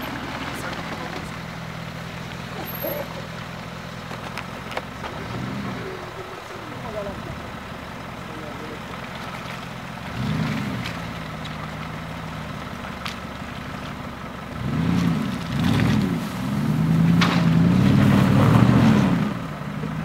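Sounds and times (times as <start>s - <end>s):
suv engine revving: 0.0s - 20.0s.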